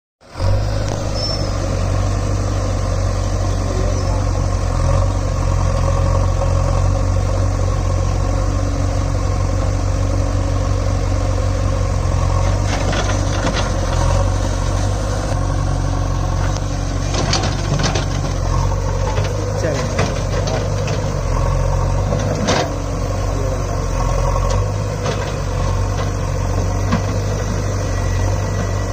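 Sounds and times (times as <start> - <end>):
diesel engines running at low revs: 0.2 - 28.9.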